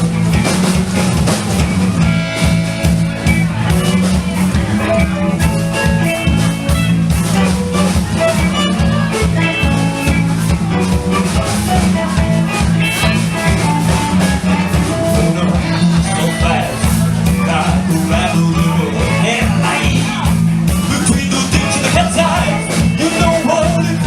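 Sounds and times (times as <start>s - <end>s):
guitar: 0.0s - 24.0s
steady drum beat: 0.0s - 24.0s.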